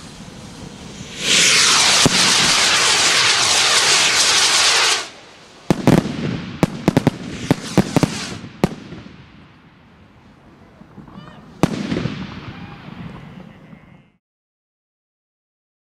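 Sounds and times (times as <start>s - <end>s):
fireworks sharp bangs: 0.0s - 9.9s, 10.8s - 13.9s
fireworks hissing crackle: 0.0s - 14.0s.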